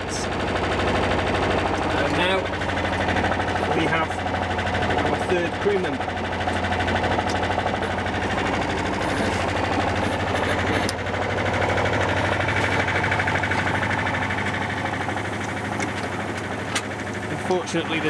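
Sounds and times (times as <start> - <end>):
boat engine droning: 0.0 - 18.0
steady hum: 0.0 - 18.0.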